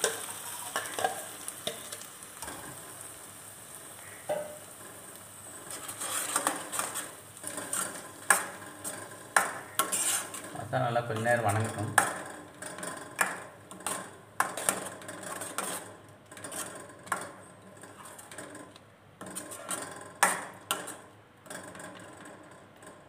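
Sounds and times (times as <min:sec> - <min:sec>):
metal spatula scraping a pan: 0:00.0 - 0:02.8, 0:03.9 - 0:22.0.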